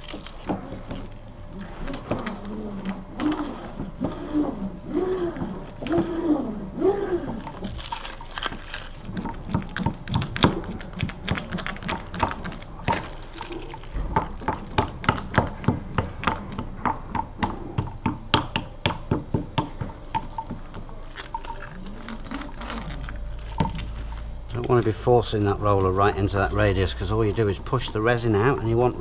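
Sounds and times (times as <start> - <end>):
laminating roller clicking and squelching: 0.0 - 29.0.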